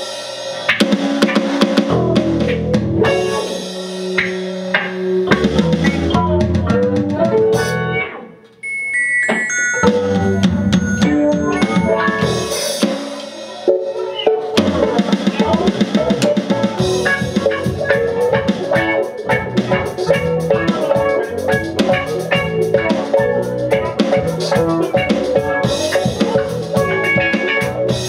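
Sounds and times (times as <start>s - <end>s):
live band jamming: 0.0s - 8.2s, 8.8s - 28.0s.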